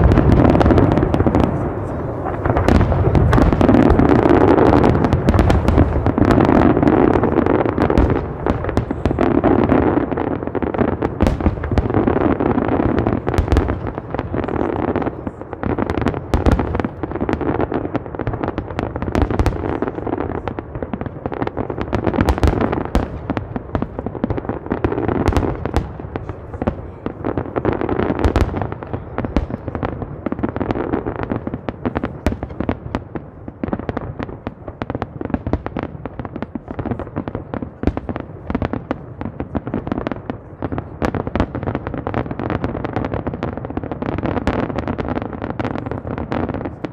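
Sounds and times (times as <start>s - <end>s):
fireworks bangs and crackling: 0.0s - 46.9s
fireworks rumble: 0.0s - 46.9s.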